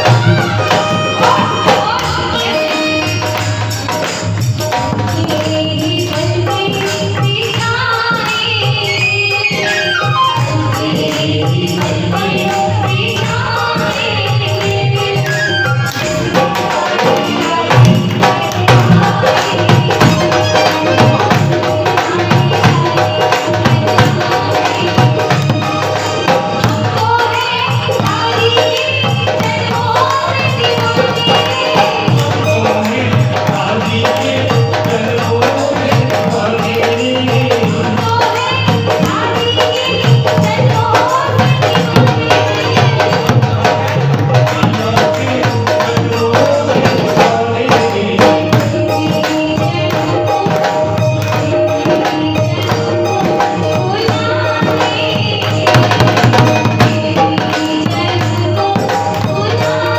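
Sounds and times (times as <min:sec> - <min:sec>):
devotional song melody: 0:00.0 - 0:59.9
jingling percussion: 0:00.0 - 0:59.9
tabla rhythm: 0:00.0 - 0:59.9.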